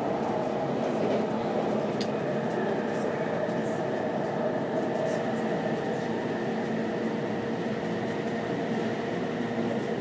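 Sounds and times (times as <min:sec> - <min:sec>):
steady train hum: 0:00.0 - 0:10.0
train wheels rumbling on track: 0:00.0 - 0:10.0.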